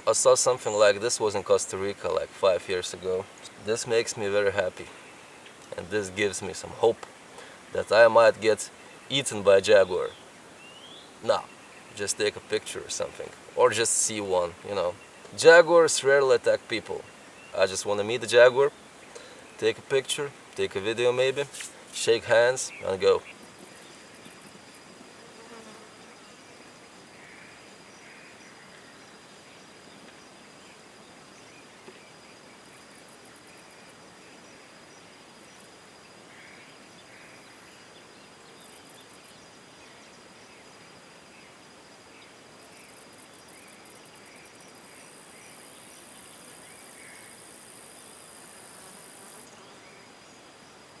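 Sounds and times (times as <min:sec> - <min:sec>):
insects droning and trilling: 0:00.0 - 0:51.0.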